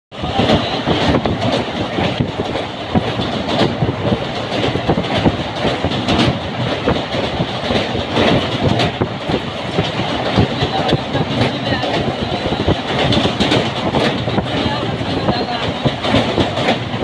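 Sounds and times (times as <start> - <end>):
train wheels clattering on rails: 0.1 - 17.0.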